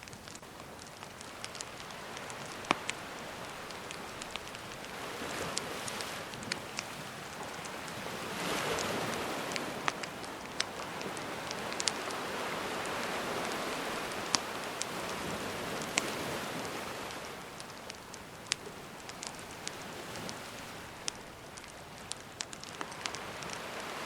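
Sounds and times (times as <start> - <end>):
campfire crackling: 0.0 - 24.0
sea wave washing: 0.0 - 24.0.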